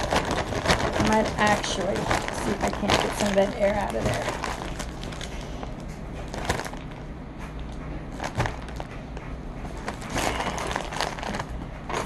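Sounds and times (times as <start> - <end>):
plastic bag crinkling: 0.0 - 7.0, 8.2 - 8.9, 9.8 - 12.0.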